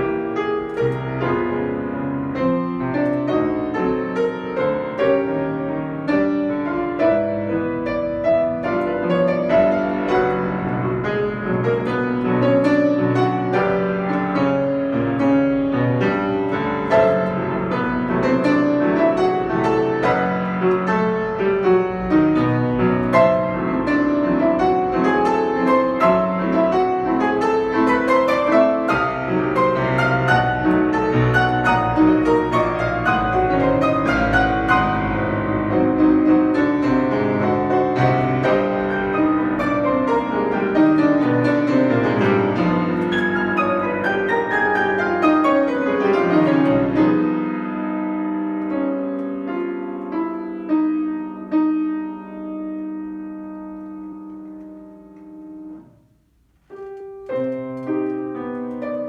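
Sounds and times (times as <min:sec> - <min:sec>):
fast solo piano: 0:00.0 - 0:59.0.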